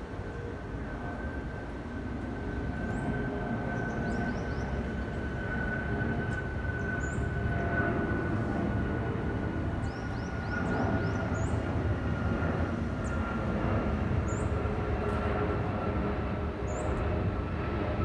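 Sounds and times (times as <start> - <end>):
jet flying over: 0.0 - 18.0.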